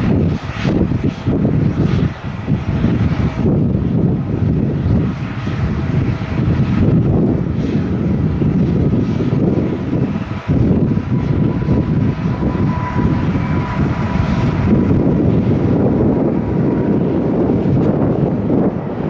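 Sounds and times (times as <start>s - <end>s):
jet engine rumble: 0.0s - 19.0s
jet engine whine: 0.0s - 19.0s
wind buffeting microphone: 0.0s - 19.0s.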